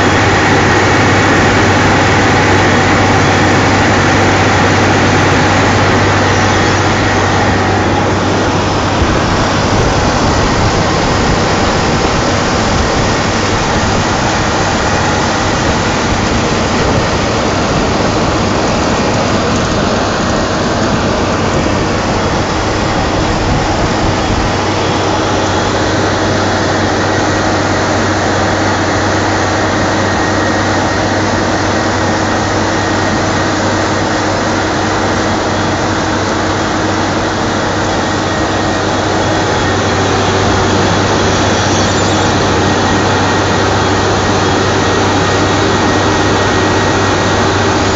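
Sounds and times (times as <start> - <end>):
cutting drum grinding road: 0.0 - 47.9
diesel engine running: 0.0 - 47.9.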